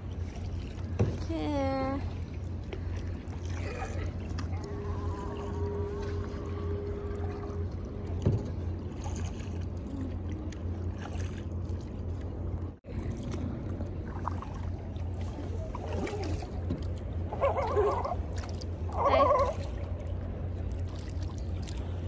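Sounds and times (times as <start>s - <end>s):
low rumble of wind: 0.0s - 22.0s
paddle splashes: 0.0s - 22.0s
water sloshing: 0.0s - 22.0s.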